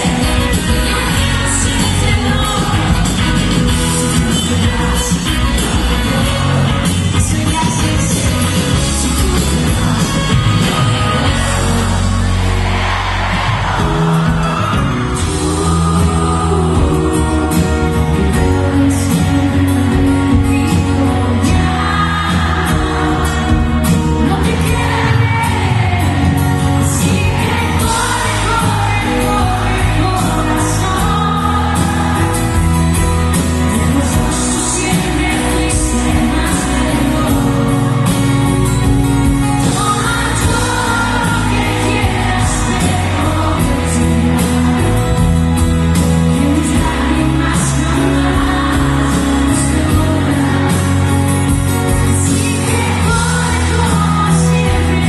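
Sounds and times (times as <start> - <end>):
lead vocal singing: 0.0 - 55.0
live pop band playing: 0.0 - 55.0.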